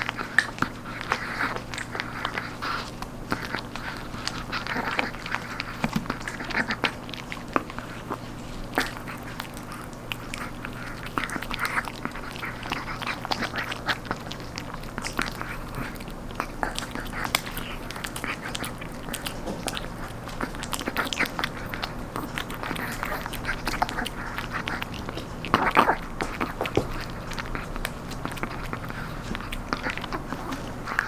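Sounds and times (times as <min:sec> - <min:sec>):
dog teeth cracking dry cartilage: 0:00.0 - 0:31.0
dog wet chewing: 0:00.0 - 0:31.0.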